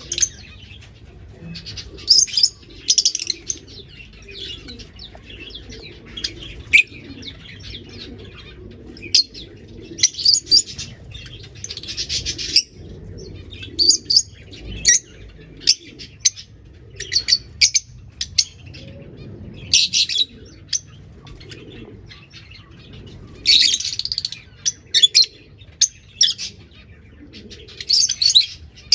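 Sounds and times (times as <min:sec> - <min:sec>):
birds chirping and chattering: 0:00.0 - 0:28.9
low background rumble: 0:00.0 - 0:28.9.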